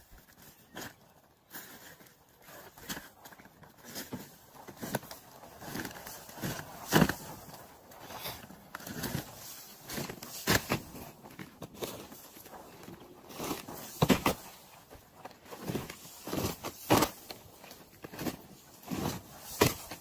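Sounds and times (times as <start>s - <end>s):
shingles scraping and shuffling: 0.2s - 20.0s.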